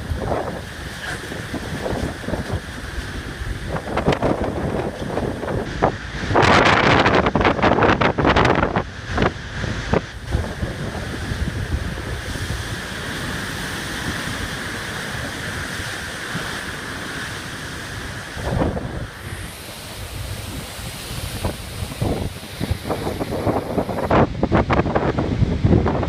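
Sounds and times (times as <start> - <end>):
rough sea: 0.0 - 26.0
wind buffeting microphone: 0.0 - 26.0.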